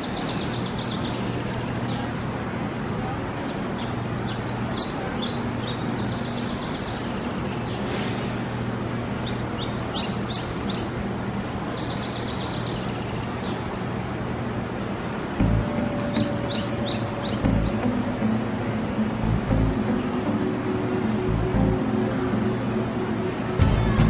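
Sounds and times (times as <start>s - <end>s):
bird chirps and trills: 0.0s - 8.1s, 9.2s - 23.6s
steady background hum: 0.0s - 24.0s.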